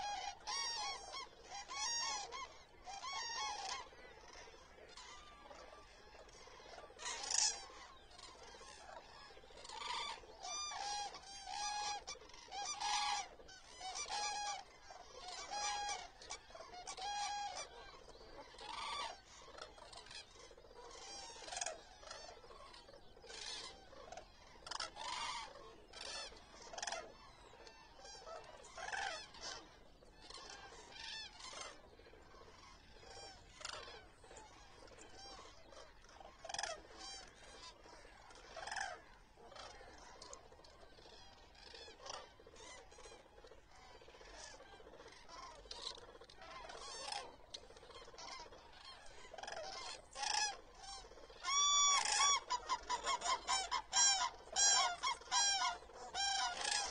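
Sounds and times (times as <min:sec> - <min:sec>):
cranes calling: 0:00.0 - 0:56.9.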